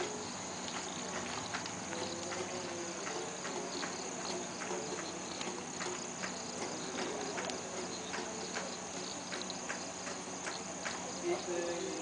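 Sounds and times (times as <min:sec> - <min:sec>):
campfire crackling: 0:00.0 - 0:12.0
high-pitched insect drone: 0:00.0 - 0:12.0.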